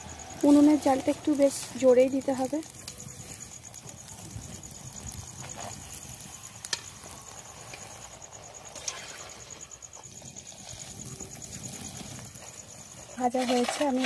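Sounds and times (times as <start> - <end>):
dough frying in hot oil: 0.0 - 14.0.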